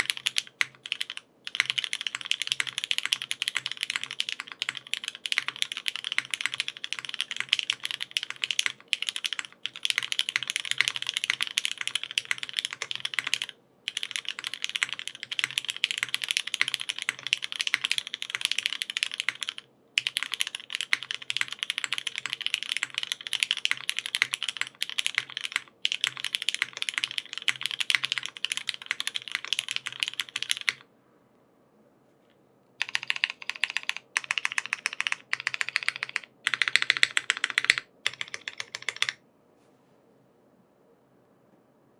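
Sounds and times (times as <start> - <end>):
fast mechanical keyboard typing: 0.0 - 30.8, 32.8 - 39.2.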